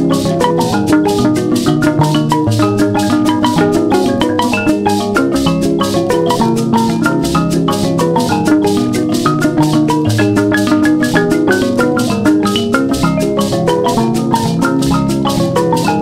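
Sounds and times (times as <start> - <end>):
bright melodic music with fast beat: 0.0 - 16.0.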